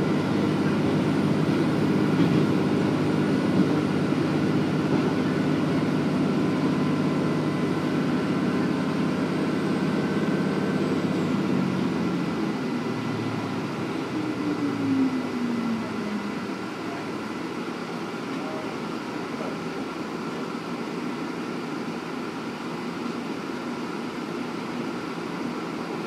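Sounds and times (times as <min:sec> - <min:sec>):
diesel railcar engine running: 0:00.0 - 0:26.0.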